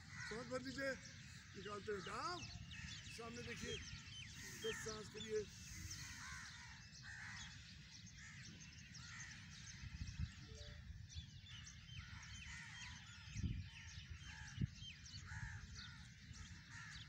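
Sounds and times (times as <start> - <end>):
crows cawing: 0.0 - 10.0, 12.0 - 13.2, 14.2 - 17.0
small birds chirping: 0.0 - 17.0.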